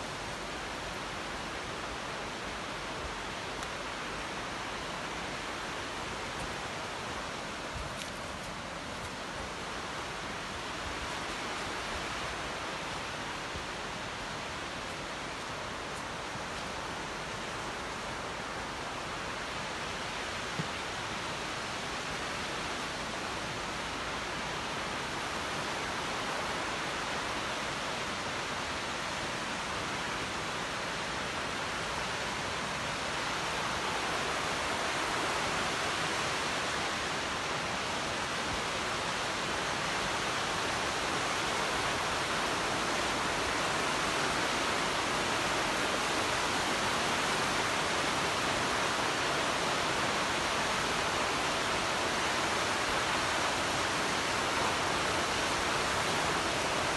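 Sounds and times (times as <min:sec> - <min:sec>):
running water rushing: 0:00.0 - 0:56.9.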